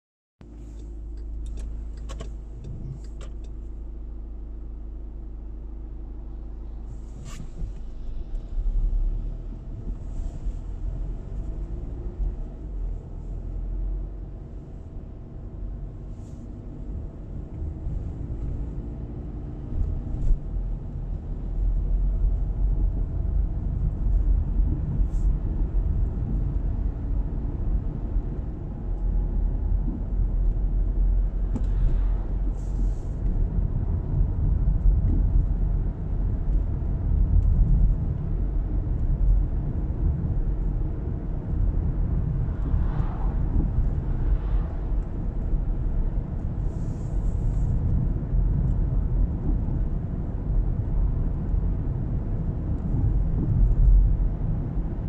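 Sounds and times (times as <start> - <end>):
car engine and tyre rumble: 0.4 - 55.0.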